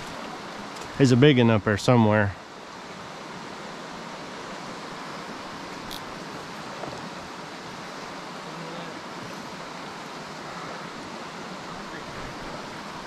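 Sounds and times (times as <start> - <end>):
creek flowing over rocks: 0.0 - 13.0.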